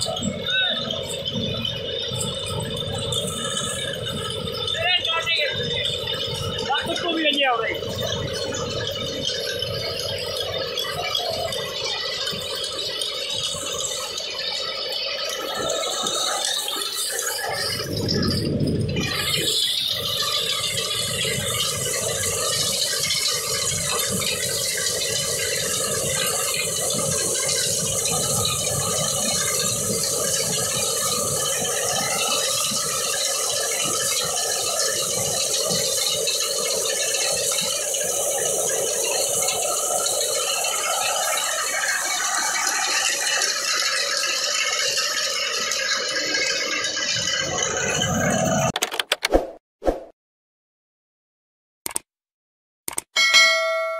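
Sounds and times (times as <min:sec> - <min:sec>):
tractor engine running: 0:00.0 - 0:49.3.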